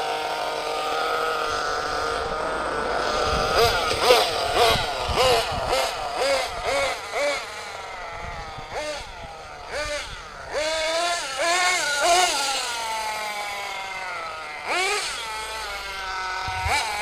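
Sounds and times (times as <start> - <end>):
model truck engine revving: 0.0 - 17.0.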